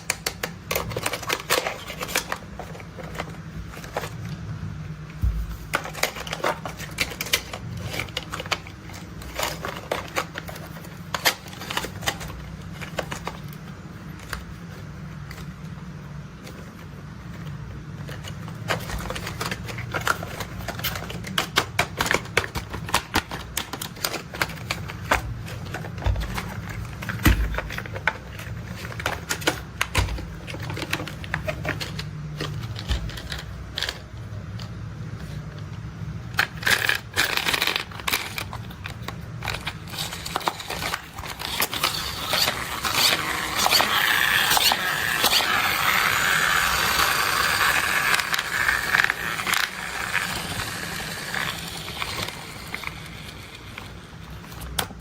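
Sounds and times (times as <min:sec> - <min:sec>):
steady low hum: 0:00.5 - 0:55.0.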